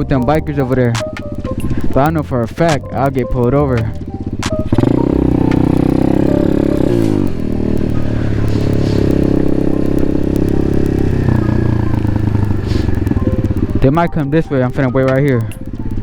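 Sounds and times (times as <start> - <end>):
pit bike engine running: 0.0 - 14.0.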